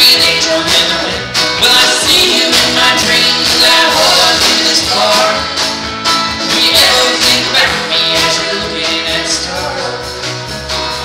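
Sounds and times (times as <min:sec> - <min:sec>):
banjo: 0:00.0 - 0:11.0
country rock band playing: 0:00.0 - 0:11.0
drum kit: 0:00.0 - 0:11.0
electric bass: 0:00.0 - 0:11.0
electric guitar: 0:00.0 - 0:11.0.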